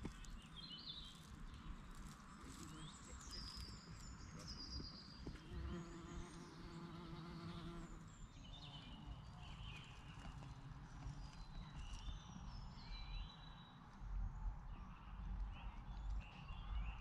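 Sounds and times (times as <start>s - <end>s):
birdsong chirps: 0.0s - 17.0s.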